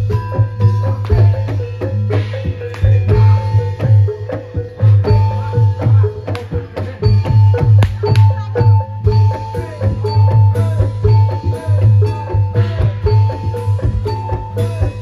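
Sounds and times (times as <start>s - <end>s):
hand drums: 0.0s - 15.0s
tuned mallet percussion: 0.0s - 15.0s.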